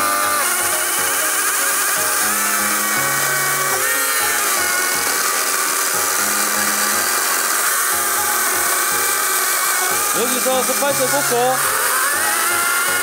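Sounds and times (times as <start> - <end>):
background music: 0.0 - 13.0
chainsaw cutting wood: 0.0 - 13.0.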